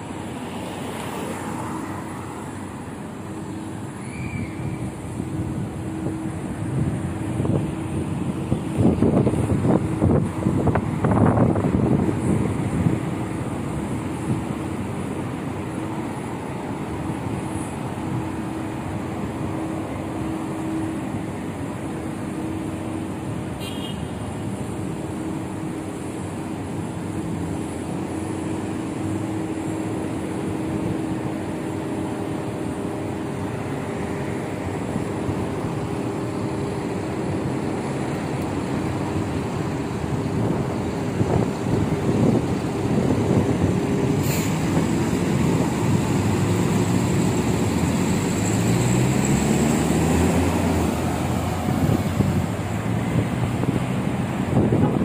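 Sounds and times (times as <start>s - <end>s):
traffic passing: 0.0s - 55.0s.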